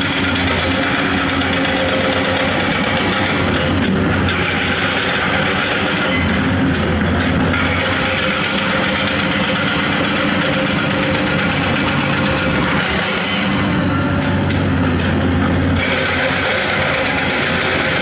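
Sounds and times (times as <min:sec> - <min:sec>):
excavator diesel engines drone: 0:00.0 - 0:18.0.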